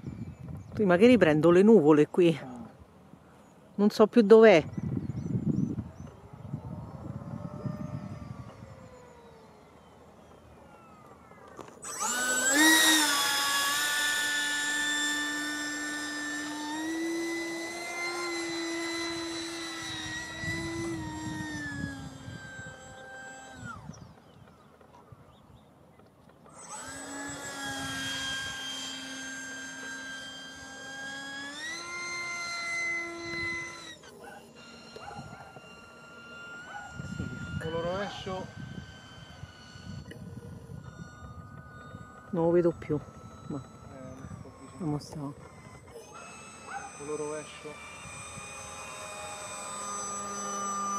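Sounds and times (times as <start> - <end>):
model jet engine whine: 0.0 - 50.9.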